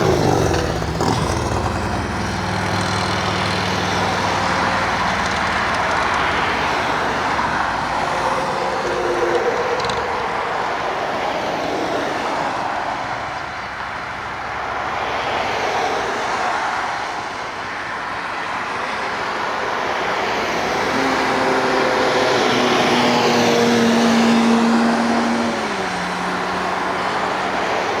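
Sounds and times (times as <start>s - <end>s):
loud engine roar passing by: 0.0s - 13.7s, 18.8s - 28.0s.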